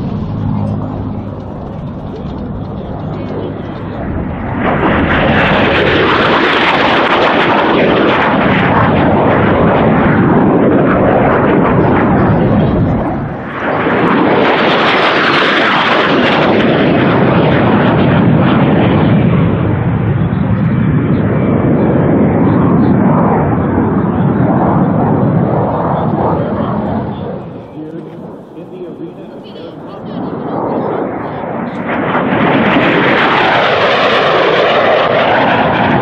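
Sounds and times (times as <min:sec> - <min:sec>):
jet roar: 0:00.0 - 0:36.0.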